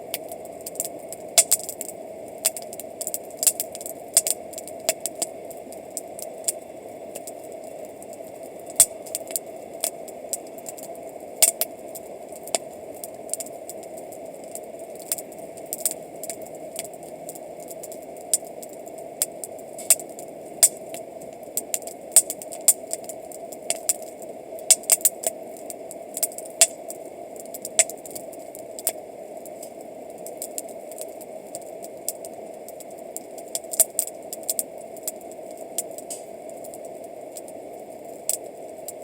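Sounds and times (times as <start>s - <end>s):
campfire crackling and popping: 0.0s - 39.0s
steady background hiss: 0.0s - 39.0s.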